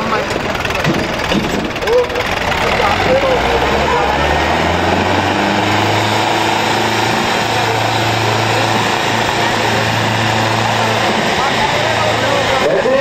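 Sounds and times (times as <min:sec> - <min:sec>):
diesel tractor engines running: 0:00.0 - 0:13.0.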